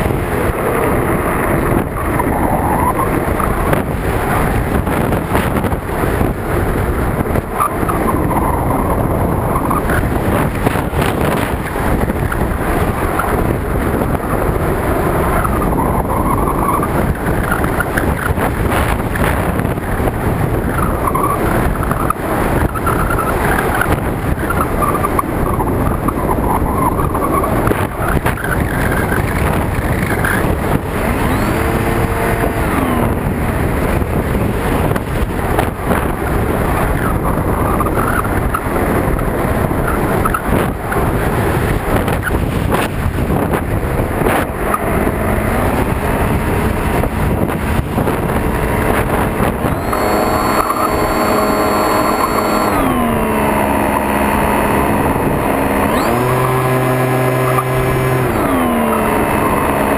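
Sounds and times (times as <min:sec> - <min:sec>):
electric motor and propeller whining: 0:00.0 - 0:59.9
wind buffeting microphone: 0:00.0 - 0:59.9.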